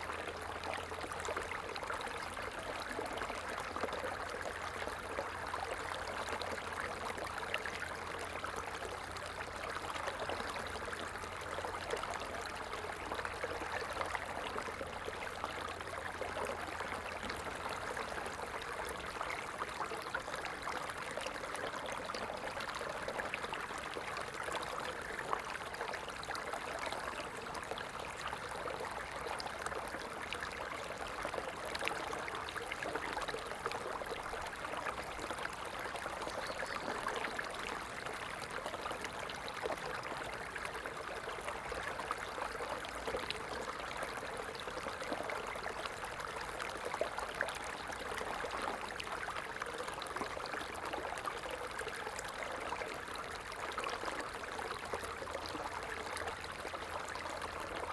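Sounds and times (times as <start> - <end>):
stream water trickling: 0.0 - 57.9.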